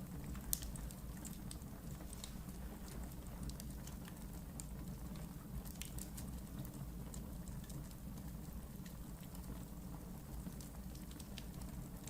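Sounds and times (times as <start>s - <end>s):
low rumble of flames: 0.0s - 12.0s
wood fire crackling: 0.0s - 12.0s
fire popping and snapping: 0.1s - 12.0s.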